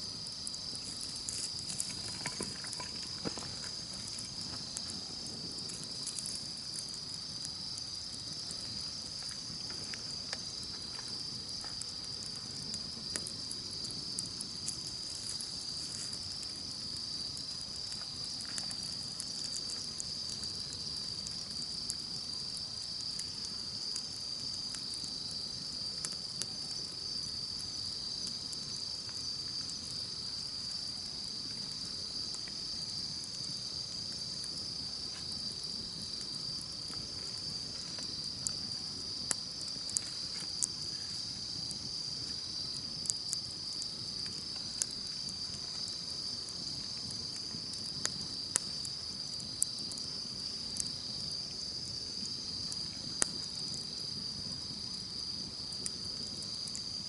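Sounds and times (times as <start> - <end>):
campfire crackling and popping: 0.0 - 57.0
high insect trill: 0.0 - 57.0.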